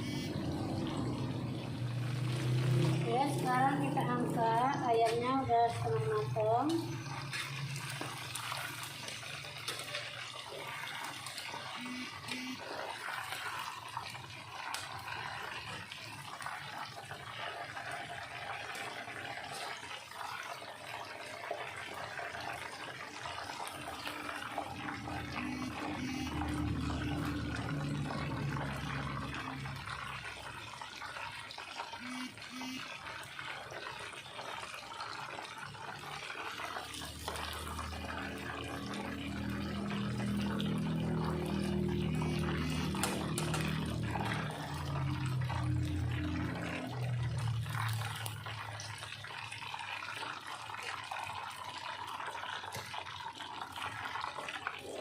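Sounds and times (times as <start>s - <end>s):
oil sizzling in a wok: 0.2s - 32.0s, 32.9s - 55.0s.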